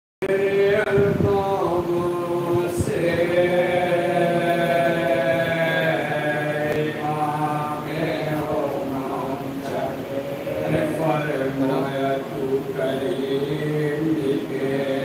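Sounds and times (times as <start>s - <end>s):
men chanting together: 0.2s - 15.0s.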